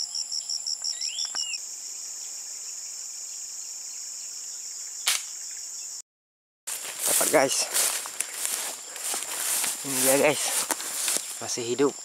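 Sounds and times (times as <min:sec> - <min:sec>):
insects buzzing: 0:00.0 - 0:06.0, 0:06.7 - 0:12.0.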